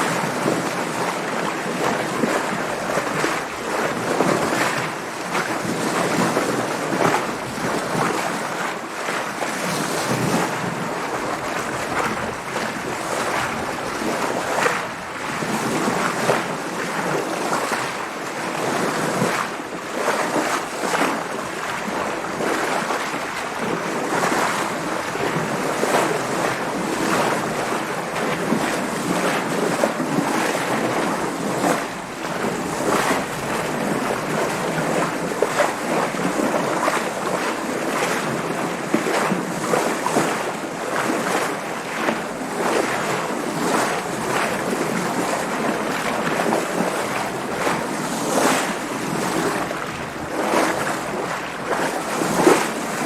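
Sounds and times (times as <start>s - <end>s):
water splashing around sailboat: 0.0s - 53.0s.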